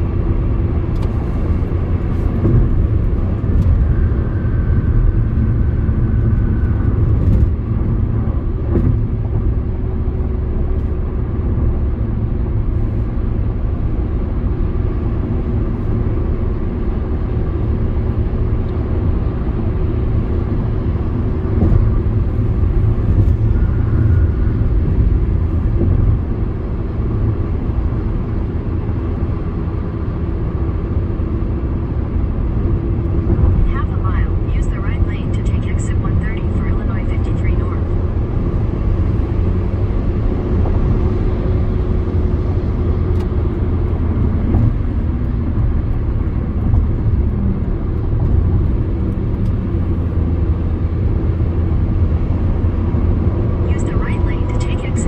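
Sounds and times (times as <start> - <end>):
car interior road noise: 0.0 - 55.0.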